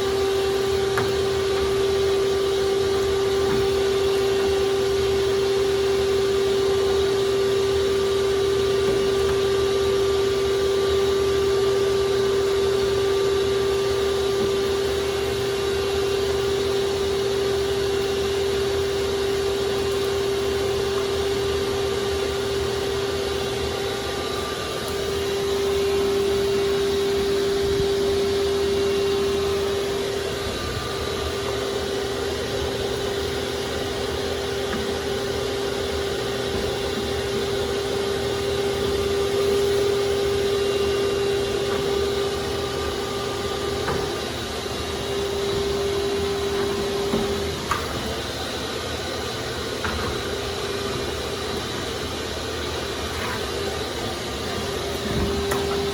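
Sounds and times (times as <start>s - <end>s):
shop vacuum motor whine: 0.0s - 55.9s.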